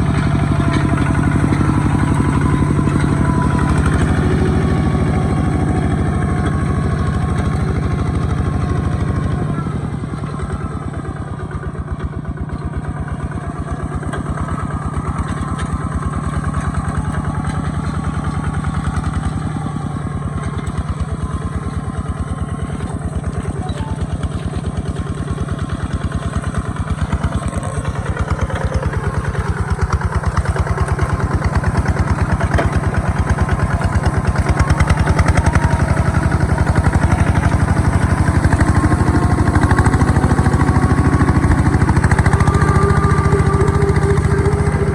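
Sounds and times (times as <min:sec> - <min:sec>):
tractor engine chugging: 0:00.0 - 0:44.9.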